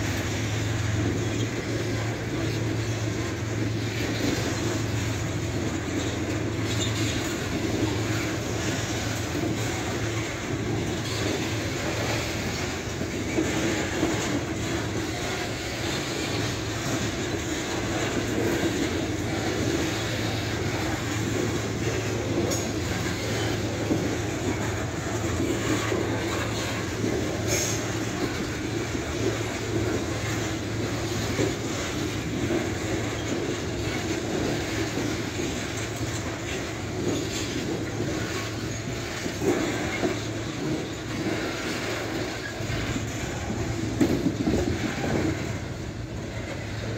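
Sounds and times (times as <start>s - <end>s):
steel wheels rumbling on rail: 0.0s - 46.9s.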